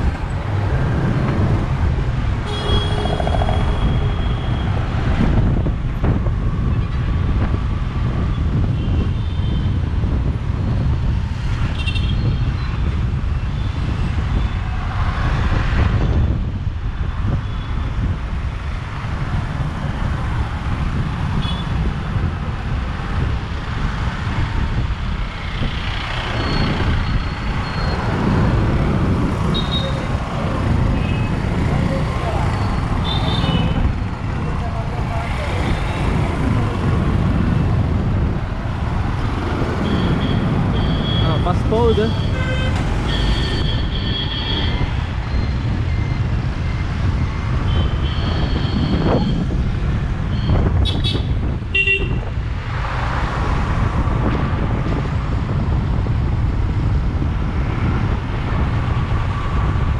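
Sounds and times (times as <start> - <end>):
vehicles passing close: 0.0 - 8.8, 9.8 - 59.9.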